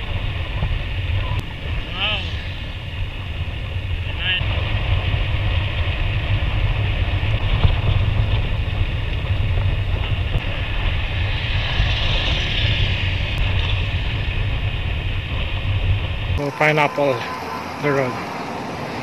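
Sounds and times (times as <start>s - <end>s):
tyre and road hiss: 0.0s - 19.0s
wind buffeting microphone: 0.0s - 19.0s.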